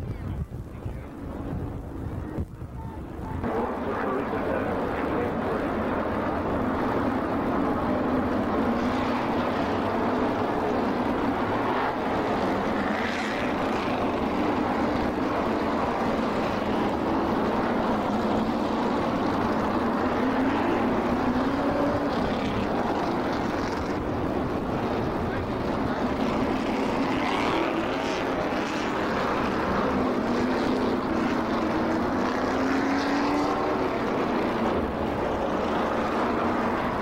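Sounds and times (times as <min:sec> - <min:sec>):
race car engines droning: 0:00.1 - 0:37.0.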